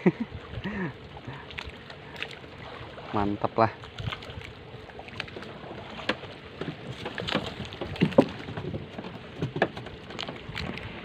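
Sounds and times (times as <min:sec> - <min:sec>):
water noise: 0:00.0 - 0:11.0
wind: 0:00.0 - 0:11.0.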